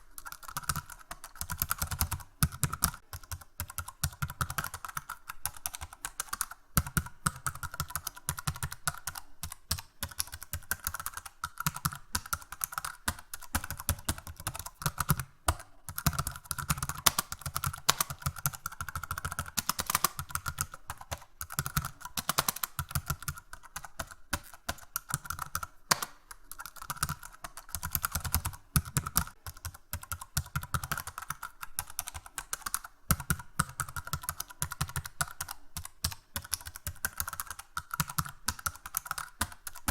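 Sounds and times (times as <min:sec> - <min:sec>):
fast typing on keyboard: 0:00.1 - 0:39.9.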